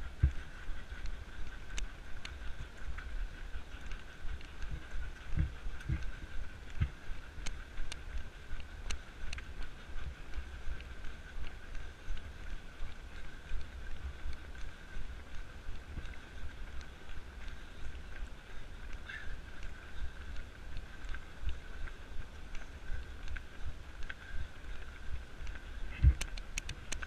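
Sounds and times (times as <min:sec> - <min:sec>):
running footsteps on pavement: 0:00.0 - 0:27.0
wind rumbling on microphone: 0:00.0 - 0:27.0.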